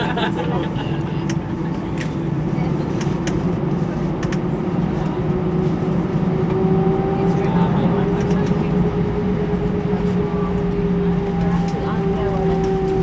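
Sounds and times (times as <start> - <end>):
airplane cabin engine hum: 0.0 - 13.0.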